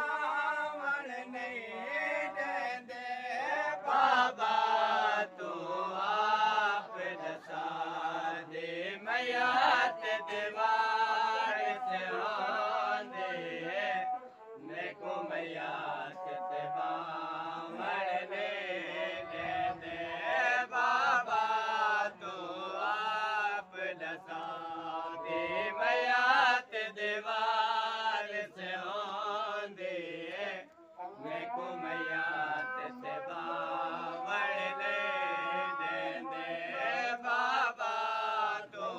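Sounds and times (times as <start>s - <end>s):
men chanting a lament: 0.0s - 38.9s.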